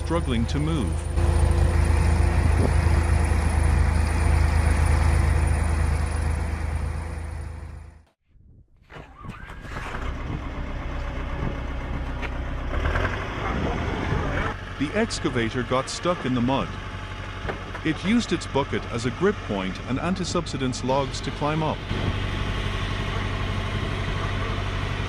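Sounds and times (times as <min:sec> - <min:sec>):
heavy vehicle engine drone: 0:00.0 - 0:08.1, 0:09.8 - 0:25.0
quieter engine sound: 0:00.0 - 0:08.1, 0:09.8 - 0:25.0.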